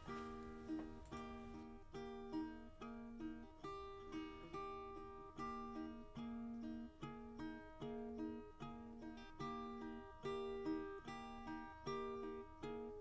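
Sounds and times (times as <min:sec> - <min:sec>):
strummed guitar or ukulele: 0:00.0 - 0:13.0.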